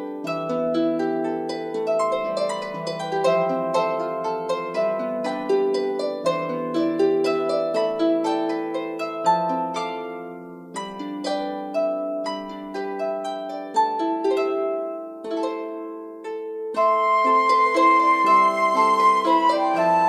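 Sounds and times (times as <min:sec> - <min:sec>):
gentle plucked melody: 0:00.0 - 0:20.0.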